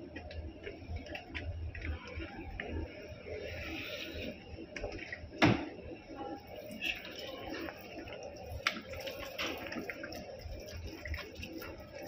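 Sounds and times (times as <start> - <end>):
juice dripping: 0.0 - 12.0.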